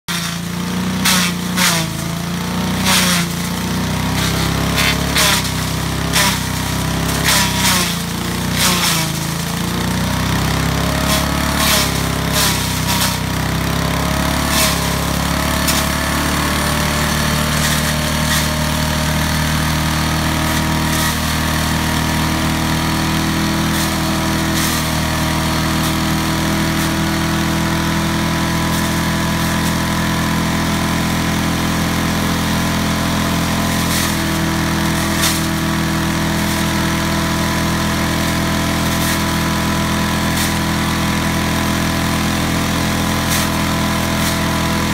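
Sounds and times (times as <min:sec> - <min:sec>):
chipper engine running: 0:00.0 - 0:44.9
twigs cracking in shredder: 0:00.1 - 0:44.9.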